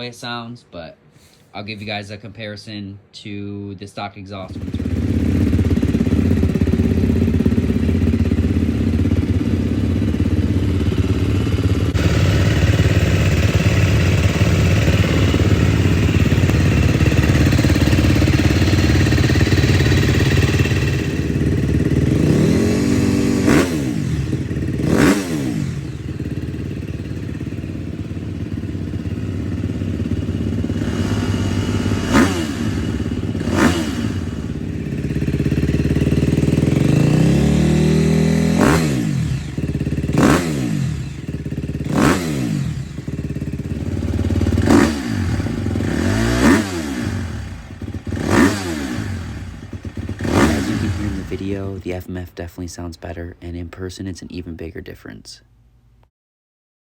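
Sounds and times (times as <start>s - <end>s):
motorcycle engine running: 4.5s - 52.0s
engine throttle blips: 4.5s - 54.2s.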